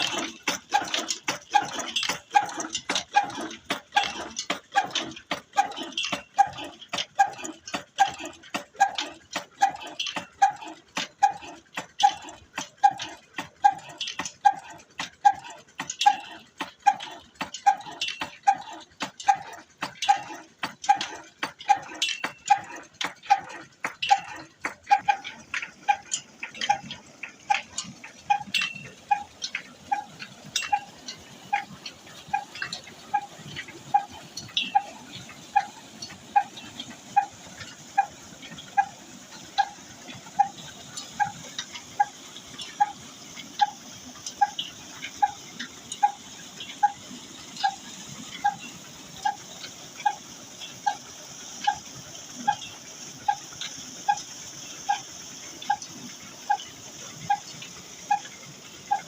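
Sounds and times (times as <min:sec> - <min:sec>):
old engine running slowly: 0:00.0 - 0:59.0.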